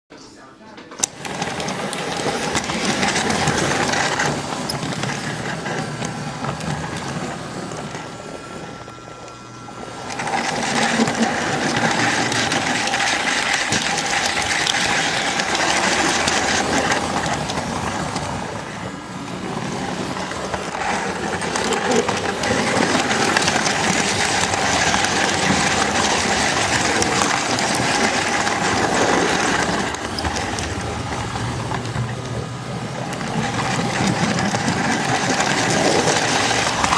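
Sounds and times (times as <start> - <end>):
wheels rolling on track: 0.8 - 36.9
model train motor humming: 1.0 - 36.9.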